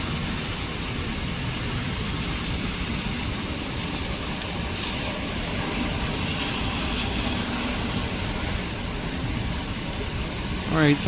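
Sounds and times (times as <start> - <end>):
heavy rain hissing: 0.0 - 11.0
tyre hiss on wet road: 0.0 - 11.0.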